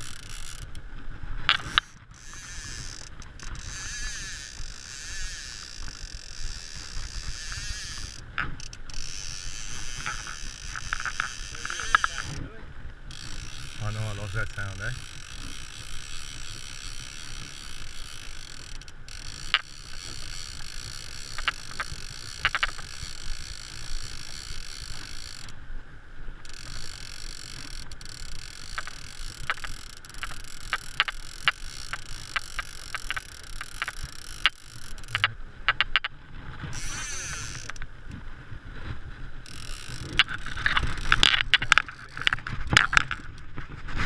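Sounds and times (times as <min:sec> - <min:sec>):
fly reel clicking: 0:00.0 - 0:00.8, 0:01.5 - 0:12.4, 0:13.0 - 0:25.5, 0:26.4 - 0:36.1, 0:36.7 - 0:37.9, 0:39.4 - 0:43.6.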